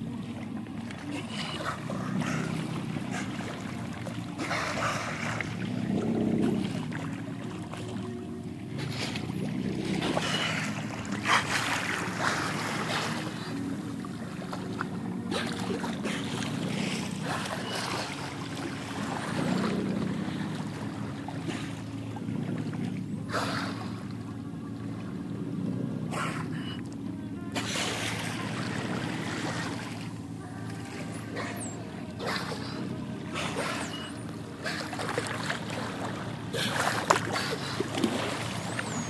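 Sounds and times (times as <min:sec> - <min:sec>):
boat engine running: 0:00.0 - 0:39.0
water rushing past hull: 0:00.0 - 0:39.0
water splashing: 0:00.0 - 0:39.0.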